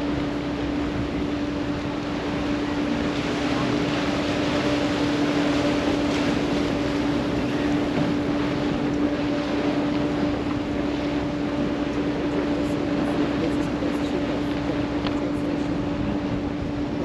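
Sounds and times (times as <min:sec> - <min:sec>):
boat engine humming: 0:00.0 - 0:17.0
wind and water rushing: 0:00.0 - 0:17.0.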